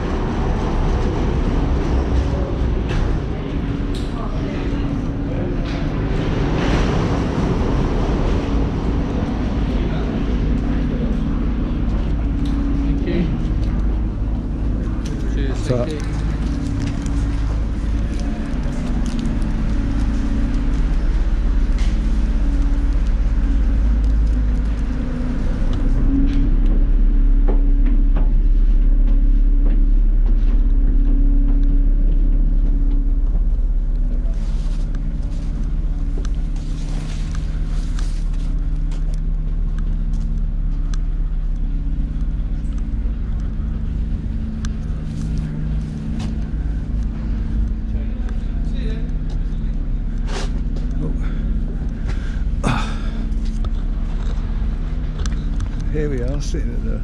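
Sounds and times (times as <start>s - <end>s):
ferry engines rumbling: 0.0s - 57.0s.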